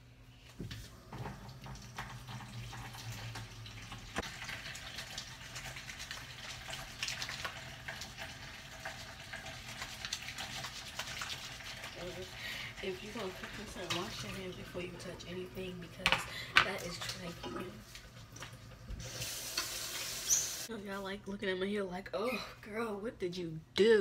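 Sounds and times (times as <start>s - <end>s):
water running from tap: 0.6s - 20.7s.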